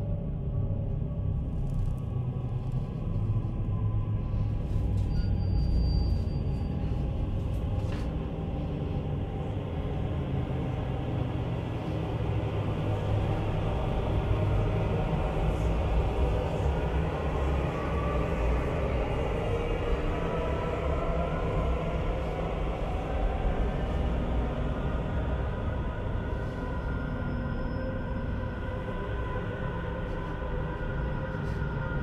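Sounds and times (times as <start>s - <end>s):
deep rumbling drone: 0.0s - 32.0s.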